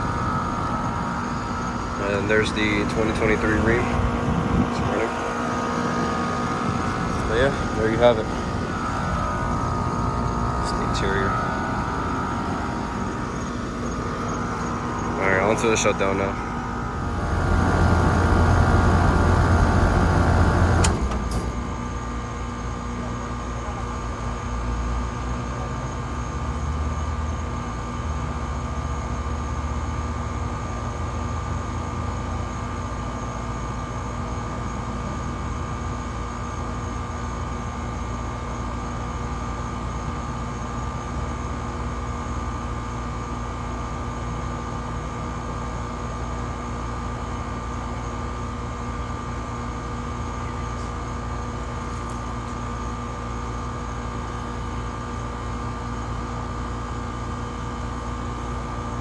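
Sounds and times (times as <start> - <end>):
air conditioner compressor hum: 0.0 - 59.0
condenser fan rumble: 0.0 - 59.0.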